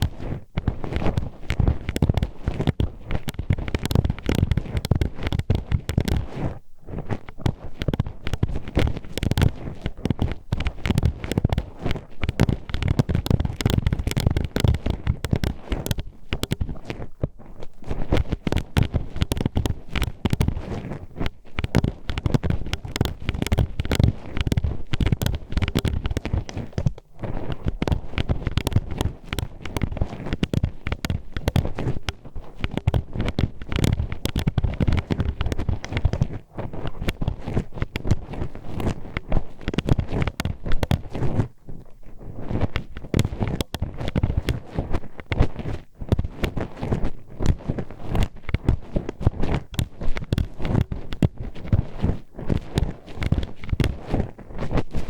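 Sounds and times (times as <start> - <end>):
hairpin scraping microphone: 0.0 - 55.0.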